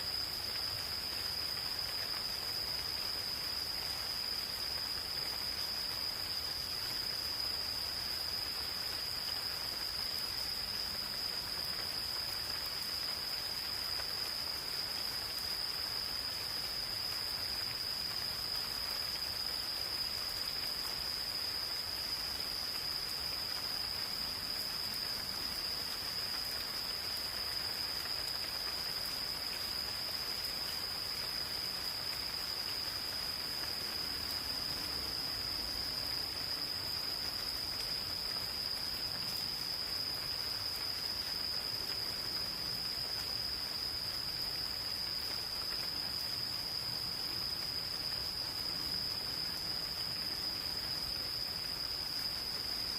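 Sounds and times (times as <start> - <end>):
gentle rain on foliage: 0.0 - 52.9.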